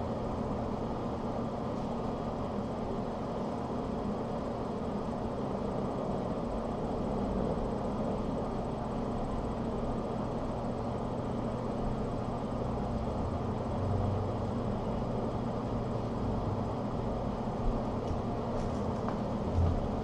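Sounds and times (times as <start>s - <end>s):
low room rumble and hum: 0.0s - 20.0s.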